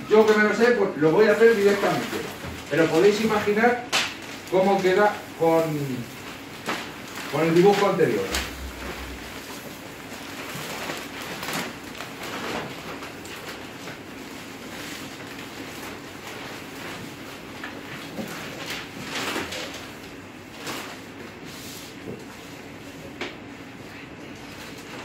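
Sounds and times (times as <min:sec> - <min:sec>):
plastic bag rustling and crinkling: 0:00.1 - 0:21.8.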